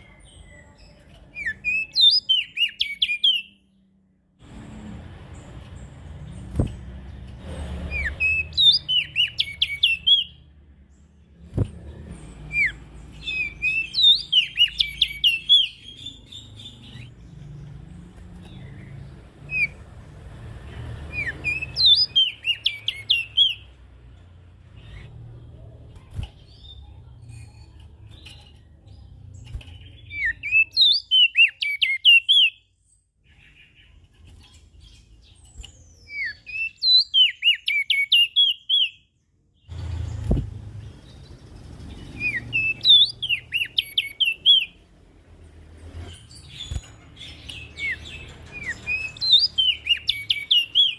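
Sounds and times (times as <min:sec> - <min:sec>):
songbird chirping: 0:00.0 - 0:50.9.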